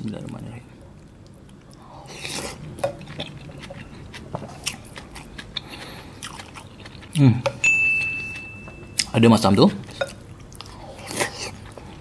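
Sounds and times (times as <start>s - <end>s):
man chewing with mouth clicks: 0.2s - 12.0s.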